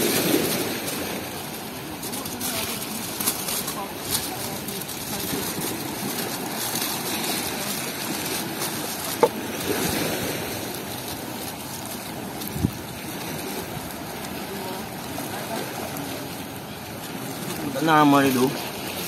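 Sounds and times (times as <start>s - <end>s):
surf on a beach: 0.0s - 19.0s
wind: 0.0s - 19.0s.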